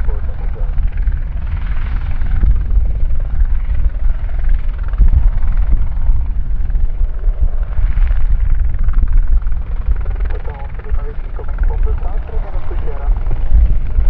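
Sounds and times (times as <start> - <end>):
helicopter rotor and engine rumble: 0.0 - 14.0.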